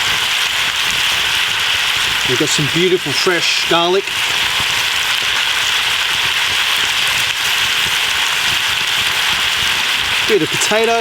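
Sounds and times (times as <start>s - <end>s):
meat and vegetables sizzling in pan: 0.0s - 11.0s.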